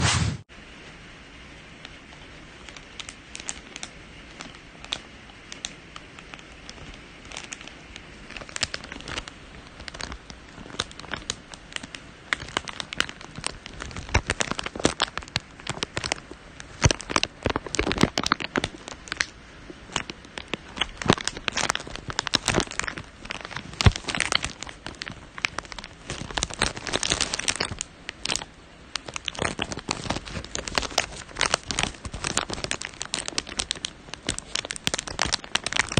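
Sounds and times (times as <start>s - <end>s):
eggshell crackling and crunching: 1.8s - 35.9s.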